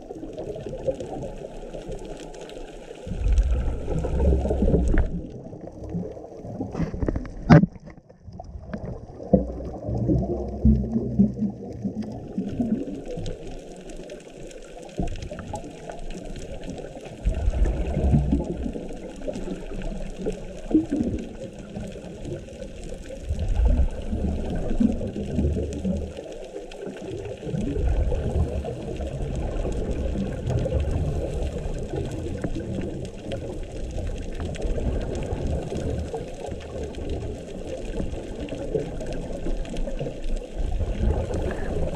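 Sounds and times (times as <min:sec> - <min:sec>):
bubbles gurgling: 0:00.0 - 0:41.9
muffled underwater rumble: 0:00.0 - 0:41.9.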